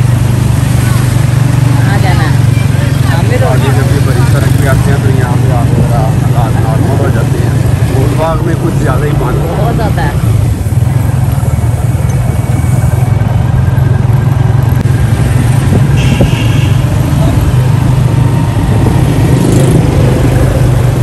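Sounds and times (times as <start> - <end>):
motorcycle engine drone: 0.0 - 21.0
street traffic: 0.0 - 21.0.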